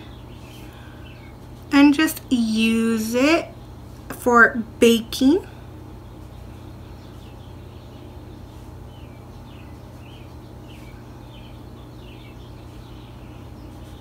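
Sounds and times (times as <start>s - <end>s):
small birds chirping: 0.0s - 4.2s, 5.2s - 14.0s
steady low hum: 0.0s - 14.0s.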